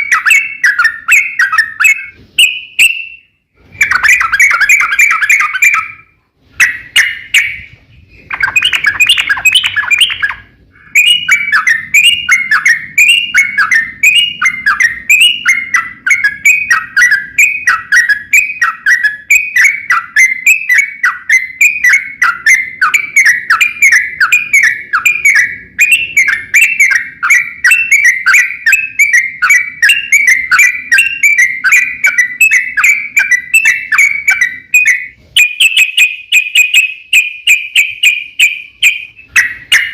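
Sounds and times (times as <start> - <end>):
bird singing falling notes: 0.0 - 39.9.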